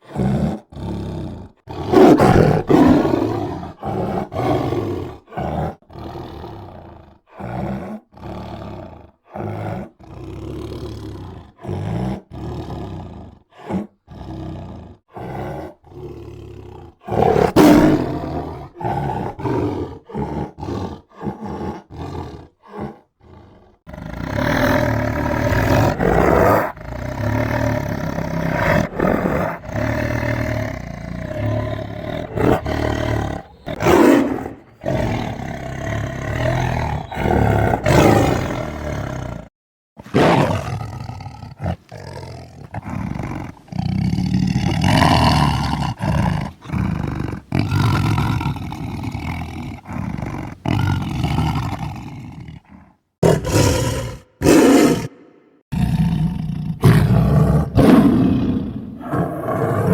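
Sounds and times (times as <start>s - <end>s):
tiger roaring and growling: 0.0s - 59.9s.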